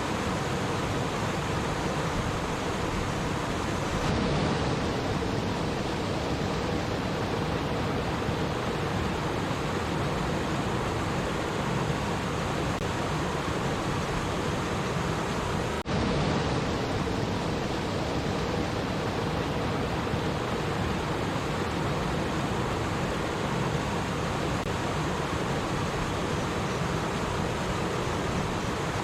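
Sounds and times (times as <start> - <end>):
stream water babbling: 0.0 - 29.0.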